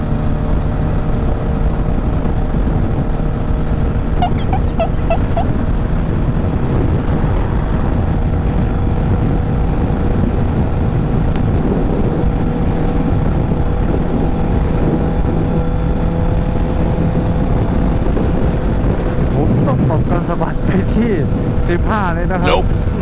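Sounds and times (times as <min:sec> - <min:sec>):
motorcycle engine running: 0:00.0 - 0:21.6
wind buffeting microphone: 0:00.0 - 0:23.0.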